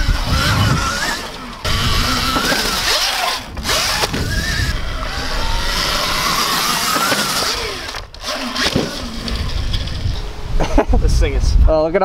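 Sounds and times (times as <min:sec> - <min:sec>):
electric motor whining: 0:00.0 - 0:10.5.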